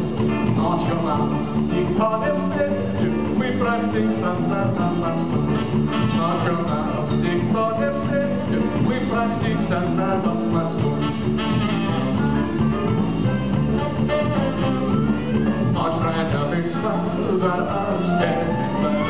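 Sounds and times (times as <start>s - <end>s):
drums: 0.0s - 19.0s
guitar: 0.0s - 19.0s
man singing: 0.1s - 12.6s, 15.6s - 19.0s.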